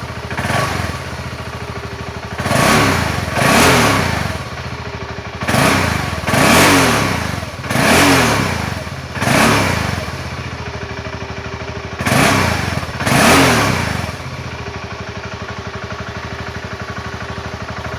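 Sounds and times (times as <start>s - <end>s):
motorcycle engine idling: 0.0s - 17.9s
motorcycle engine revving: 0.0s - 17.9s.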